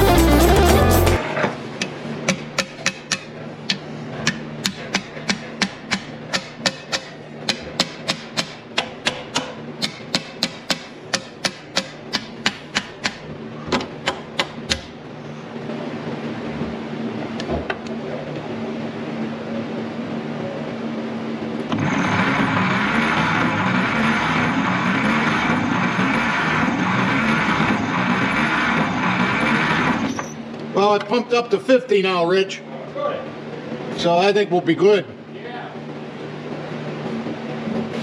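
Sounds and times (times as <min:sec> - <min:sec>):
steady mechanical hum: 0:00.0 - 0:38.0.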